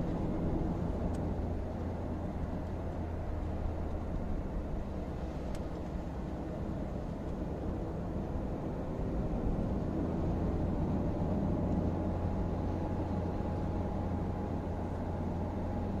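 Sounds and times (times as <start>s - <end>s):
car cabin road and engine drone: 0.0s - 16.0s.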